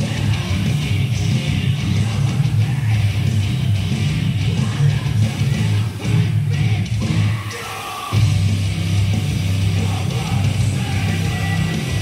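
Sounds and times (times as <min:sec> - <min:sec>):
heavy rock music: 0:00.0 - 0:12.0.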